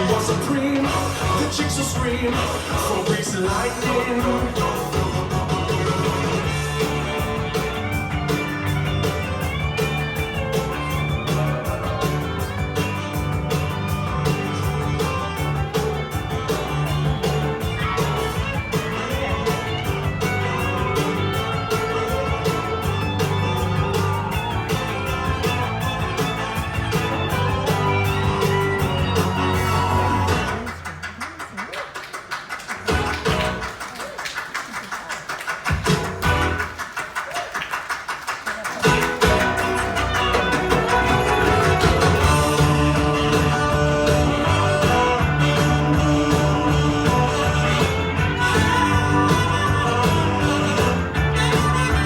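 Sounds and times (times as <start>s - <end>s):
rock guitar: 0.0s - 30.8s, 32.9s - 33.7s, 35.8s - 36.8s, 38.8s - 52.0s
steady drum beat: 0.0s - 30.8s, 32.8s - 33.8s, 35.7s - 36.8s, 38.8s - 52.0s
bass guitar: 0.0s - 30.9s, 32.9s - 33.8s, 35.7s - 36.8s, 38.8s - 52.0s.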